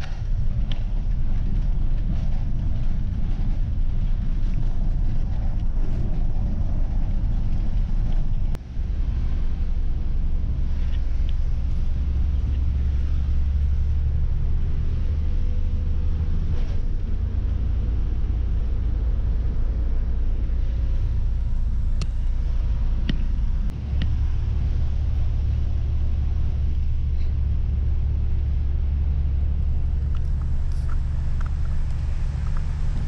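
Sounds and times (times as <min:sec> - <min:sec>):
bus engine rumble: 0:00.0 - 0:33.0
road noise: 0:00.0 - 0:33.0.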